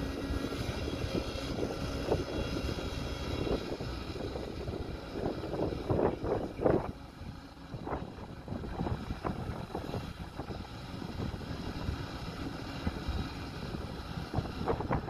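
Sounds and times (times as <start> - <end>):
excavator diesel engine under load: 0.0 - 15.0
wind rumbling on microphone: 0.0 - 15.0.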